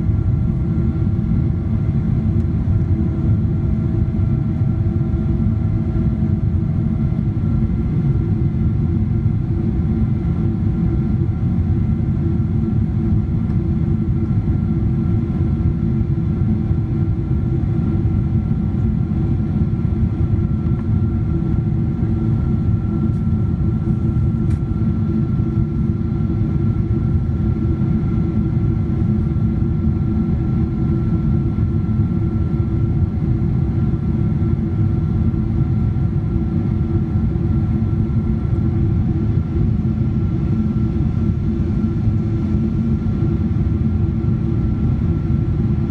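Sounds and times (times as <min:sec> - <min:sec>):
airplane cabin rumble: 0:00.0 - 0:45.9.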